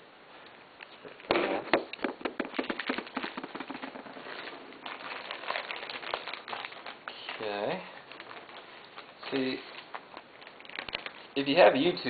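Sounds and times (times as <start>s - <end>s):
packaging crackling: 1.9s - 12.0s.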